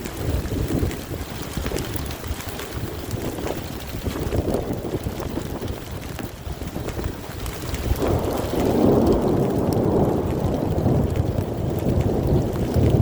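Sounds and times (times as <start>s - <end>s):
thunder rumbling: 0.0s - 13.0s
wind and rain on microphone: 0.0s - 13.0s.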